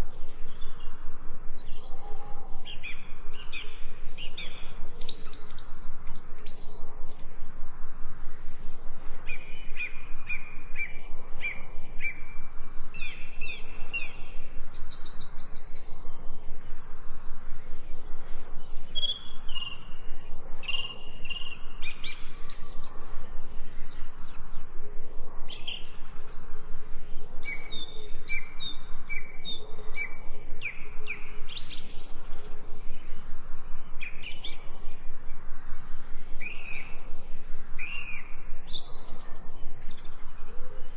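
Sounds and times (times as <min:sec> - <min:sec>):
birds singing and calling: 0:00.0 - 0:07.7, 0:09.2 - 0:24.8, 0:27.4 - 0:33.1, 0:33.9 - 0:40.9.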